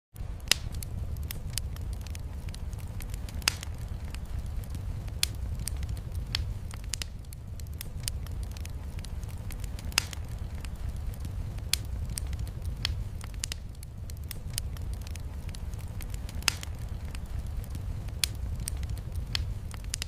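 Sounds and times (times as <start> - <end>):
heavy rain rumble: 0.1 - 20.0
wood fire crackling and popping: 0.1 - 20.0.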